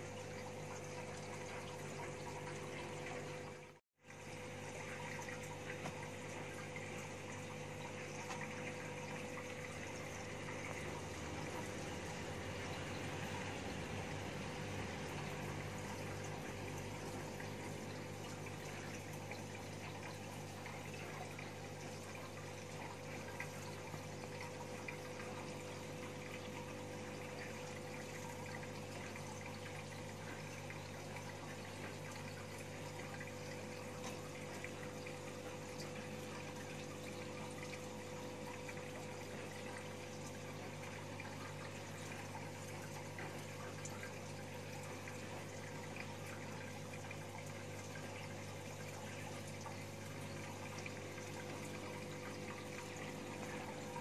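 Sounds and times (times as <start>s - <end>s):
aquarium filter water rushing: 0.0s - 54.0s
pump low hum: 0.0s - 54.0s.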